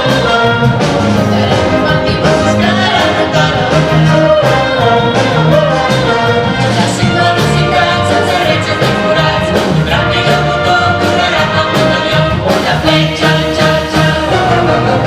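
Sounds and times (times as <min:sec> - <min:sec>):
live rock band playing: 0:00.0 - 0:15.0
people singing: 0:00.0 - 0:15.0.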